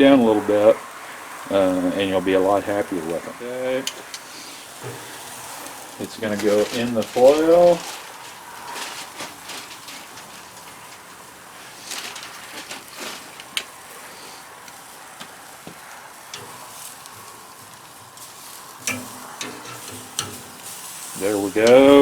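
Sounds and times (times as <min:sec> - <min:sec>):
steaks sizzling on a grill: 0:00.0 - 0:22.0.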